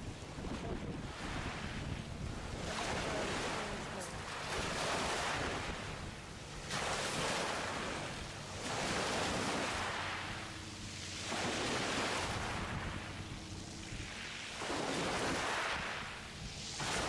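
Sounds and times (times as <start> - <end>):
small waves washing in: 0.0 - 17.0.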